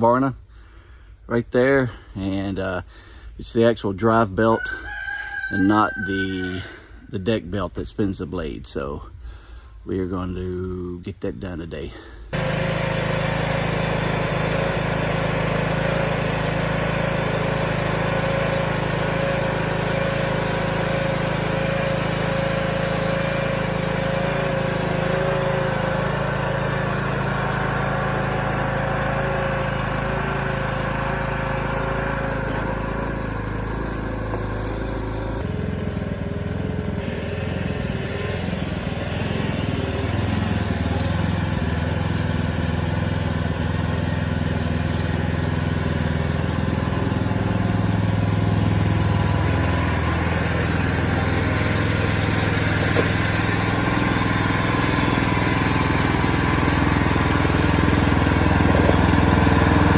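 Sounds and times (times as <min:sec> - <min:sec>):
riding mower engine running: 0:00.0 - 0:59.9.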